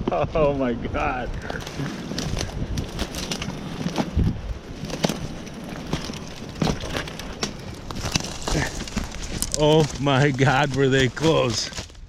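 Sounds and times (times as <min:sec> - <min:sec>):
footsteps through dry leaves: 0:01.4 - 0:12.0.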